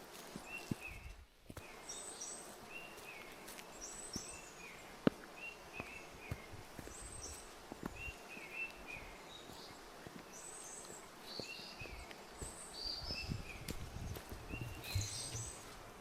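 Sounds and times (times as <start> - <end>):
footsteps on forest trail: 0.0 - 16.0
songbirds chirping: 0.0 - 16.0.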